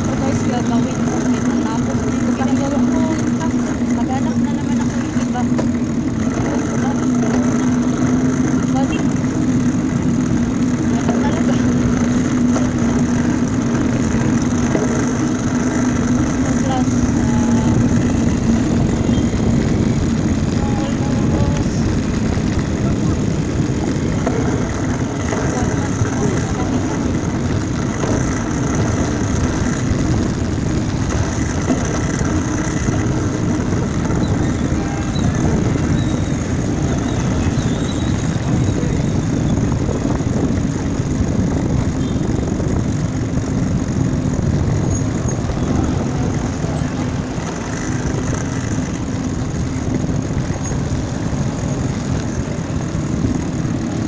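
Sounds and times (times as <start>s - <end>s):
street traffic rumble: 0.0s - 54.0s.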